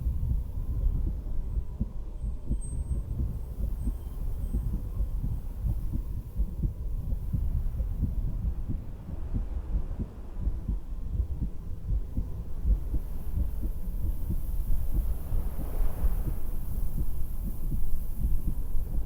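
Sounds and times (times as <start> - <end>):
heartbeat thumps: 0.0 - 19.0
low rumble: 0.0 - 19.0.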